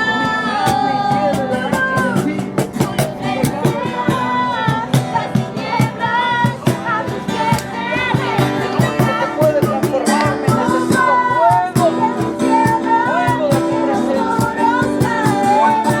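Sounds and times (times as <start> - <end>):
voices singing worship music: 0.0 - 16.0.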